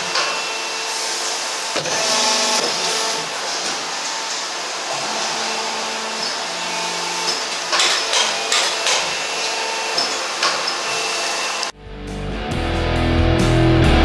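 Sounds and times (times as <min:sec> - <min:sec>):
injection moulding machine humming: 0:00.0 - 0:11.8.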